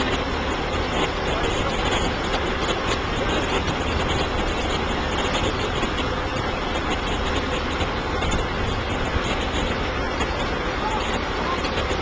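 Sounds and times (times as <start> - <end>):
fire engine engine running: 0.0 - 12.0.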